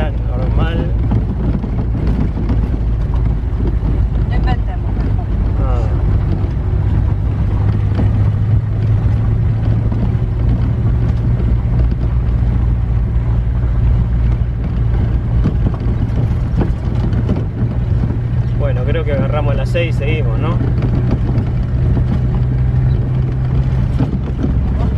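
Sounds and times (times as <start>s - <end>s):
road noise: 0.0s - 24.9s
vehicle engine drone: 0.0s - 24.9s.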